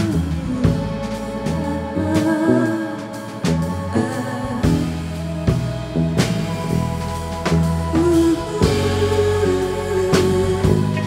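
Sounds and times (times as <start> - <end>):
bass guitar: 0.0 - 11.0
drum kit: 0.0 - 11.0
electric guitar: 0.0 - 11.0.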